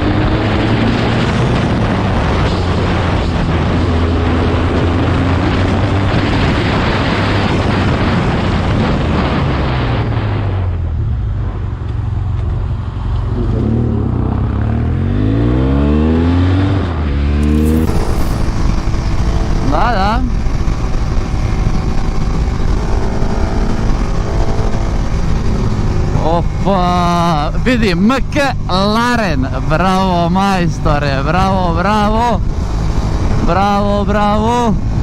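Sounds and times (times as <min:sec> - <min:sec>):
motorcycle engine revving: 0:00.0 - 0:35.0
wind rush: 0:00.0 - 0:35.0.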